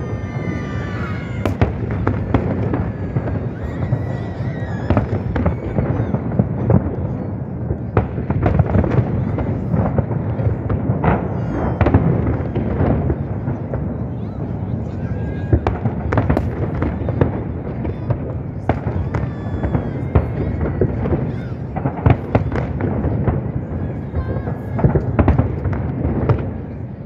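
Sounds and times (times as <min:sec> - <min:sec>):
fireworks bursting: 0:00.0 - 0:27.0.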